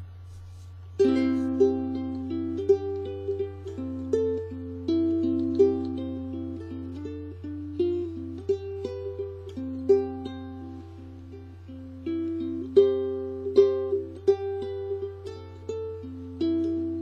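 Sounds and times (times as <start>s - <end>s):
ukulele playing: 0.5s - 17.0s.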